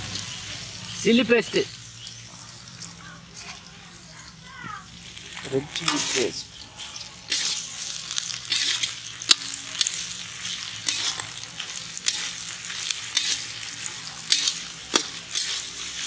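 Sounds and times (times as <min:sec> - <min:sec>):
meat sizzling in hot oil: 0:00.0 - 0:16.0
metal spatula scraping a pan: 0:01.4 - 0:04.4, 0:05.0 - 0:16.0.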